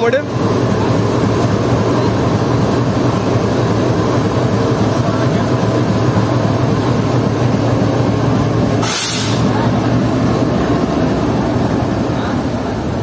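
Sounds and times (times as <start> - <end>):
locomotive engine humming: 0.0 - 13.0.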